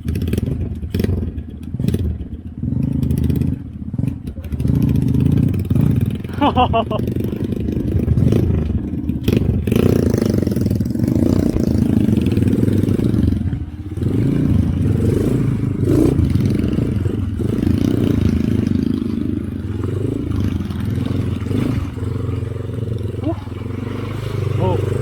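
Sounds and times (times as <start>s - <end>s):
motorcycle engine pulling through mud: 0.0s - 25.0s.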